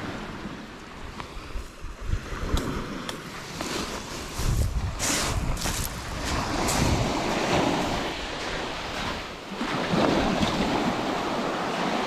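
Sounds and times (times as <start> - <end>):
surf washing on gravel beach: 0.0 - 12.0.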